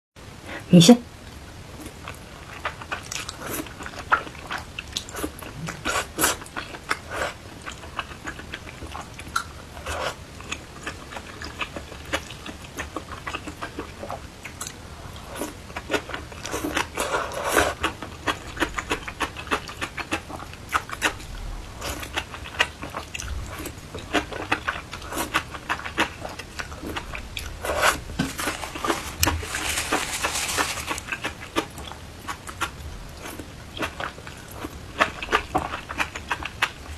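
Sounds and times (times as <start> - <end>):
chewing and crunching: 1.3 - 36.9.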